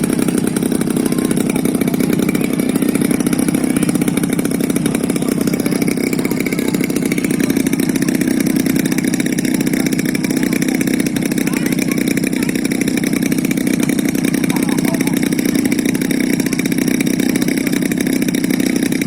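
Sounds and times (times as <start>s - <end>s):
model plane engine buzzing: 0.0s - 19.0s.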